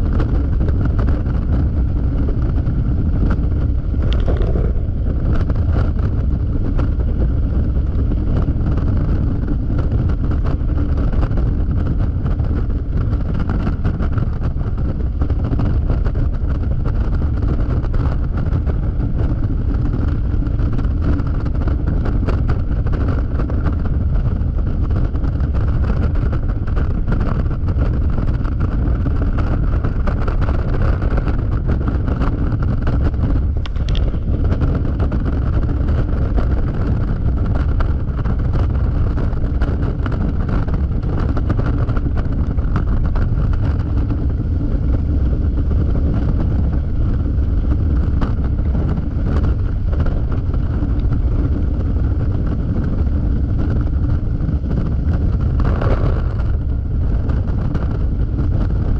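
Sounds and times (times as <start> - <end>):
scooter engine drone: 0.0 - 58.9
wind rumble on microphone: 0.0 - 58.9.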